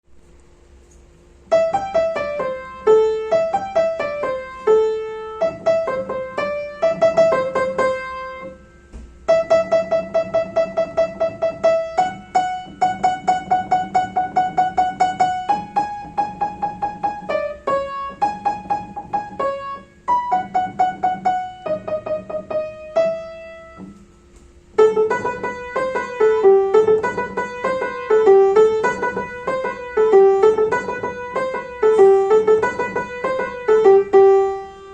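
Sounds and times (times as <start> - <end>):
upbeat piano melody: 1.4 - 34.9.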